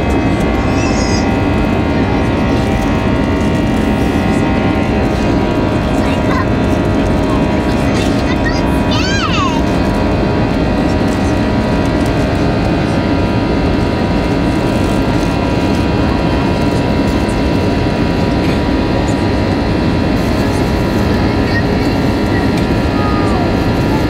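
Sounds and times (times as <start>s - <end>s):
jet engines roaring in cabin: 0.0s - 24.0s
steady engine whining tones: 0.0s - 24.0s.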